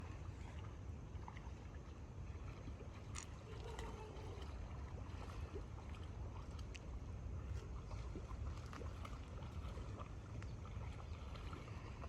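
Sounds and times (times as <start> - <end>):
faint trickling water: 0.0 - 12.0.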